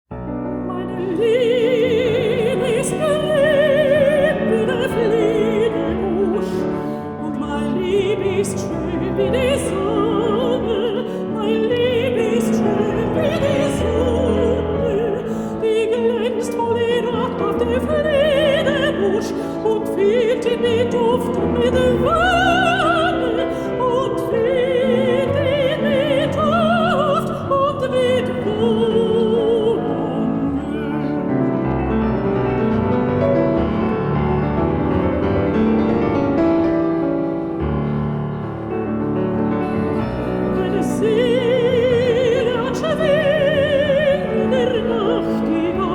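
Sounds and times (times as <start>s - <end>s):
operatic voice singing with vibrato: 0.5s - 34.0s, 39.2s - 45.9s.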